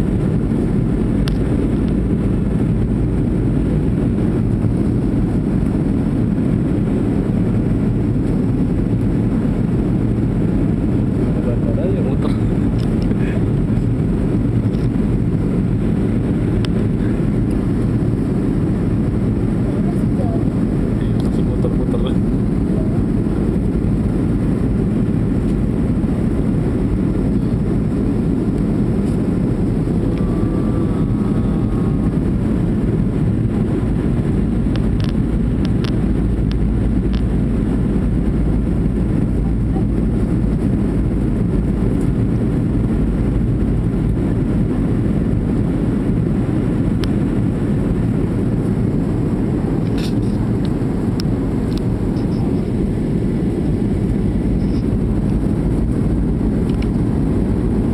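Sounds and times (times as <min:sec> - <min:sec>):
jet cabin engine rumble: 0:00.0 - 0:57.9.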